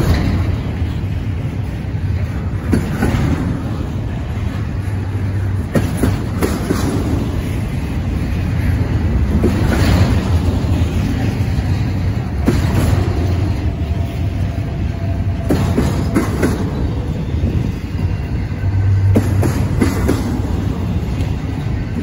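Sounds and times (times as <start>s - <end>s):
train wheels rumbling on rails: 0.0s - 22.0s
wheels clacking over rail joints: 0.0s - 22.0s.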